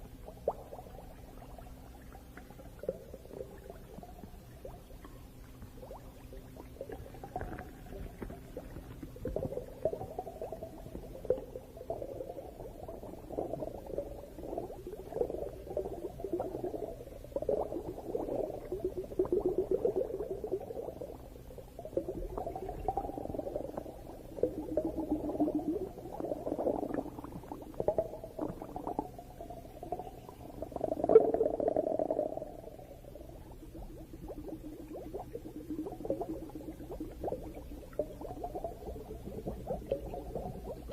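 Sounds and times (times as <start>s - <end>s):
faint low hum: 0.0s - 40.9s
underwater bubbling and gurgling: 0.0s - 40.9s.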